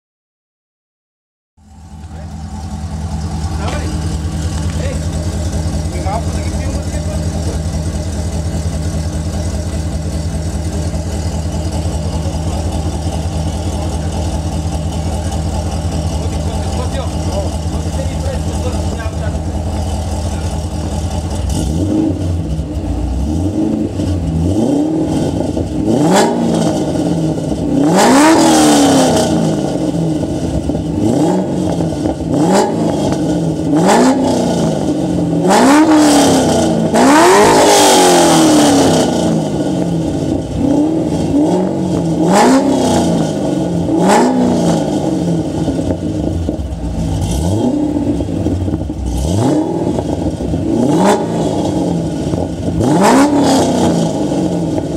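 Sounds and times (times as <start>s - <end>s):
car engine revving: 1.6s - 54.9s.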